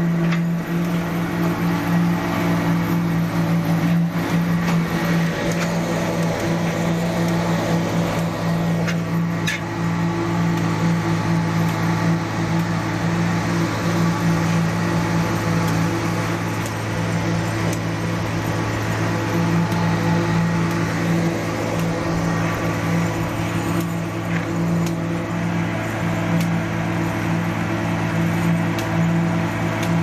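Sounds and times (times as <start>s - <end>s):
paving machine droning: 0.0s - 30.0s.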